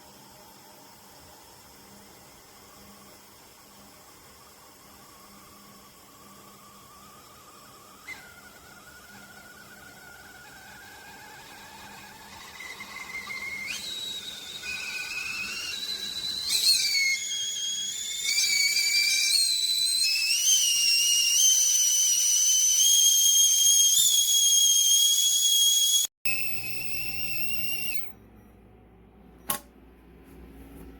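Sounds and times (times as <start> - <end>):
kettle whistling: 0.0 - 28.2.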